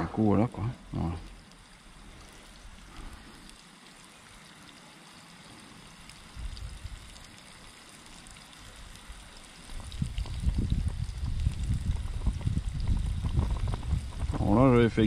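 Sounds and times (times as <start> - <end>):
fish sizzling in hot oil: 0.2 - 15.0.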